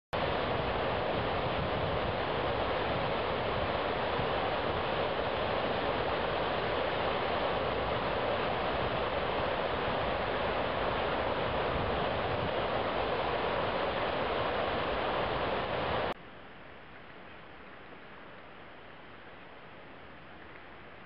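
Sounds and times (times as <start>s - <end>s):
river pouring over dam: 0.2s - 21.0s.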